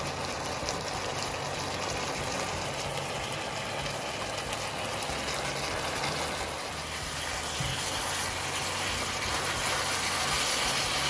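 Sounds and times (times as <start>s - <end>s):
chicken sizzling in pan: 0.0s - 11.0s.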